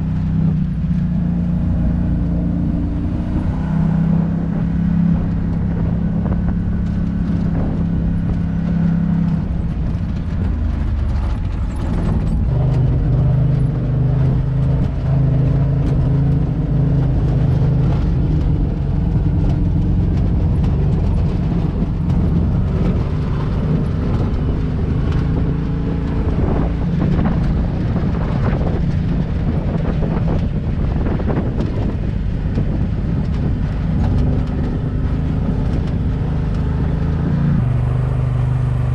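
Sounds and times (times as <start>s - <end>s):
utility vehicle engine running: 0.0s - 38.9s
knocks and rattles: 5.5s - 37.4s.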